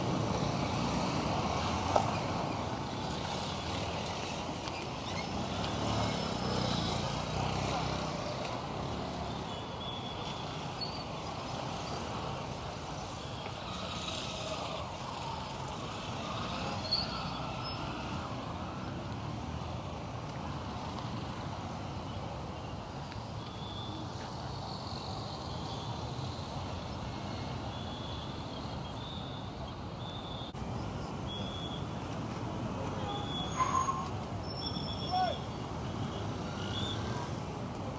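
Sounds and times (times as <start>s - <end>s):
road traffic going by: 0.0s - 37.9s.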